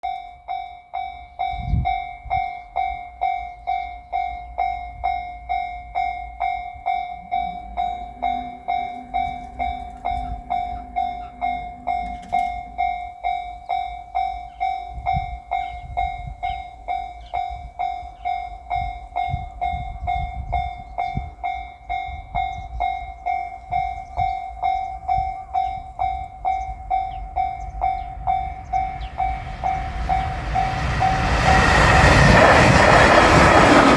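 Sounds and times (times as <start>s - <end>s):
level crossing warning bell: 0.0s - 33.9s
train rumble: 4.2s - 33.9s.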